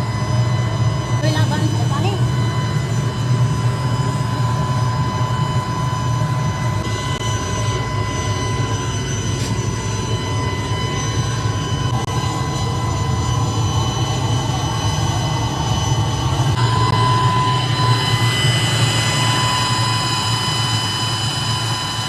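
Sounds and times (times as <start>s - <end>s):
high-pitched machine whines: 0.0s - 22.0s
machinery low drone: 0.0s - 22.0s.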